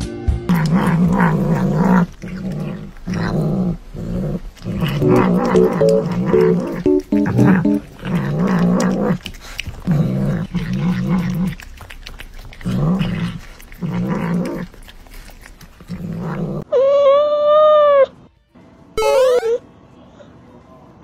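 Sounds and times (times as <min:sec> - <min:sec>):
cat growling: 0:00.5 - 0:18.1.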